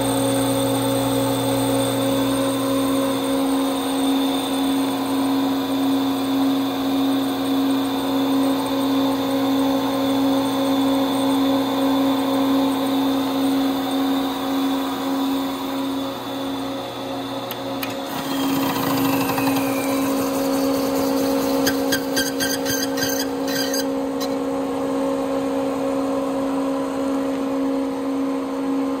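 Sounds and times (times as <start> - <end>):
hard disk drive whine: 0.0 - 25.5.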